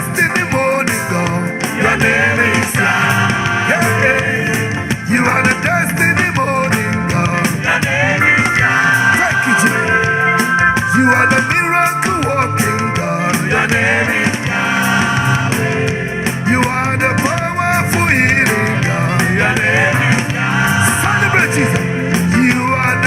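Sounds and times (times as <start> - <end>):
band playing: 0.0 - 23.0
voices singing: 0.0 - 23.0.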